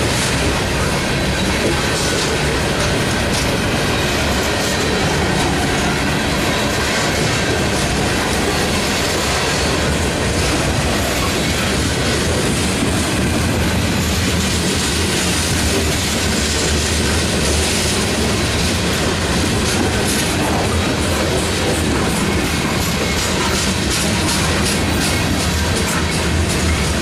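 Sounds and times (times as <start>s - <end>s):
freight train wheels rumbling on rails: 0.0s - 27.0s
wheels clicking over rail joints: 0.0s - 27.0s.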